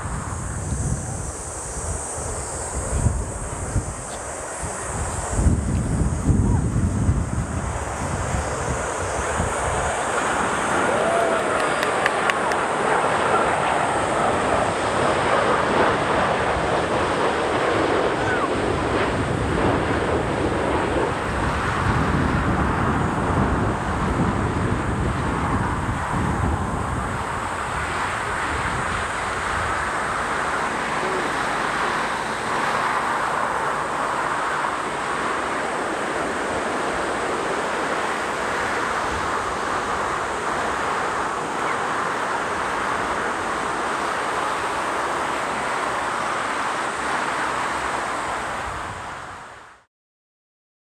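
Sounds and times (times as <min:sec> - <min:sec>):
wind buffeting microphone: 0:00.0 - 0:49.6
jet engines roaring: 0:00.0 - 0:49.8.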